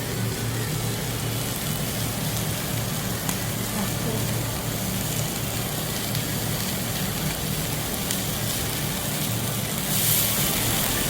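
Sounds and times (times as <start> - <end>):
low steady hum: 0.0 - 11.0
meat sizzling on a grill: 0.0 - 11.0.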